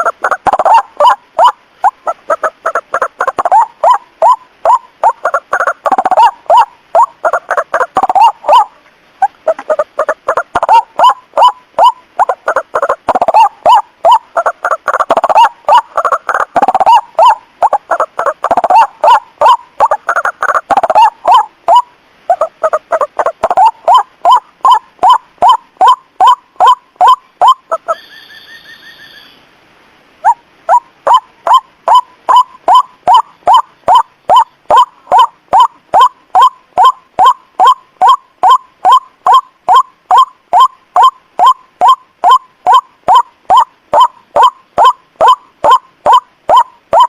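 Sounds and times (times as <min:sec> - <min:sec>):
waterhen calls: 0:00.0 - 0:47.0.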